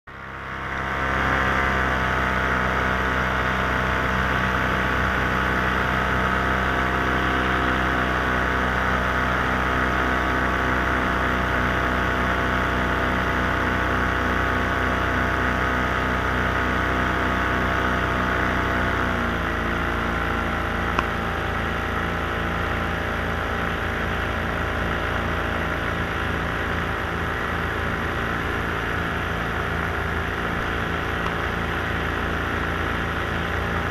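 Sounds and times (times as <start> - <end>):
aircraft propeller motor: 0.1 - 33.9.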